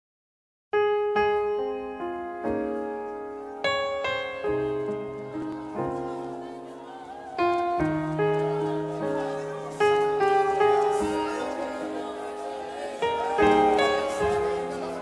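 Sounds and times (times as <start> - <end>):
piano music: 0.7 - 15.0.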